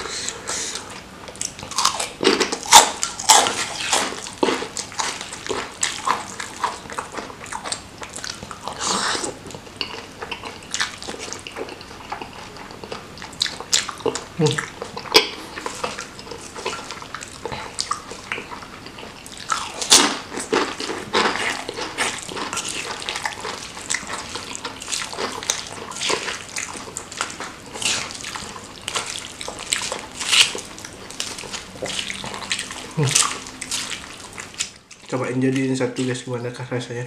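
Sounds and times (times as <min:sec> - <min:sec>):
wet chewing and smacking: 0:00.0 - 0:36.2.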